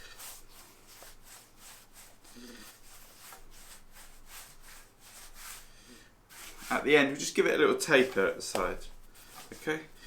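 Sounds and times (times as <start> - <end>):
hands rolling dough on a surface: 0.0 - 7.2, 7.8 - 10.0.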